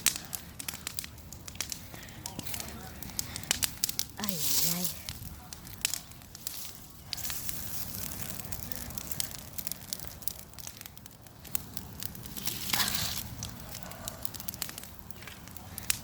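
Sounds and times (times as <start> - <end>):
bonfire crackling and popping: 0.0 - 16.0
fire rushing: 0.0 - 16.0.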